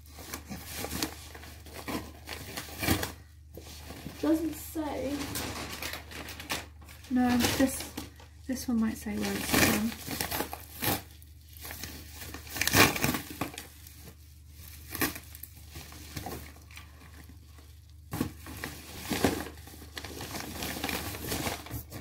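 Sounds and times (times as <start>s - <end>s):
plastic bag tearing and crinkling: 0.0s - 22.0s.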